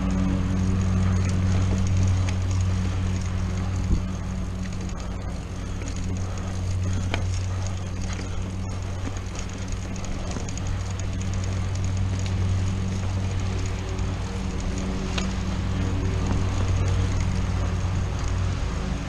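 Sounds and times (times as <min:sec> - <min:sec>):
bike rattles and ticks: 0:00.0 - 0:19.0
steady low hum: 0:00.0 - 0:19.0
tyres rolling on dirt: 0:00.0 - 0:19.0.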